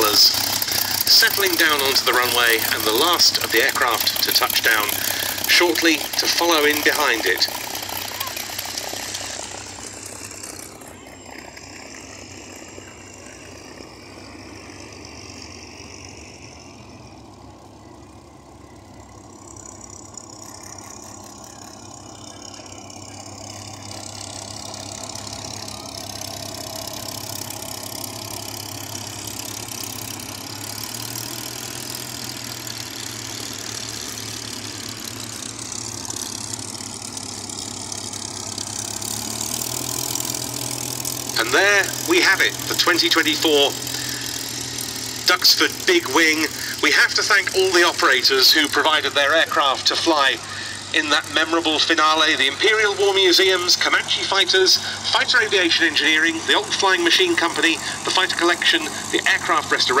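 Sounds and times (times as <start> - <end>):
propeller plane engine running: 0.0 - 60.0.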